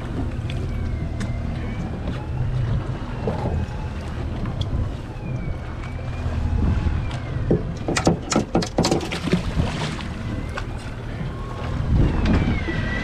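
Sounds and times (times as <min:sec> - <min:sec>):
splashes and clacks at hull: 0:00.0 - 0:06.2, 0:07.0 - 0:12.7
boat engine idling: 0:00.0 - 0:13.0
wind on microphone: 0:00.0 - 0:13.0.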